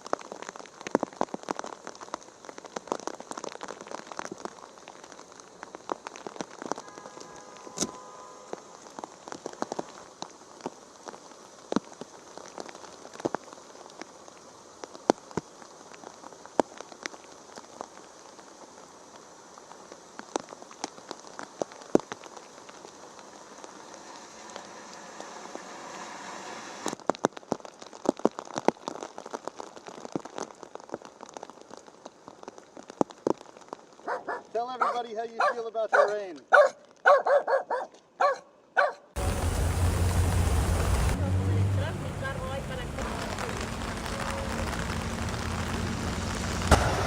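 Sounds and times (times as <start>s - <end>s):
raindrops tapping on microphone: 0.0s - 34.6s, 39.2s - 47.0s
rain falling: 0.0s - 35.3s, 39.2s - 47.0s.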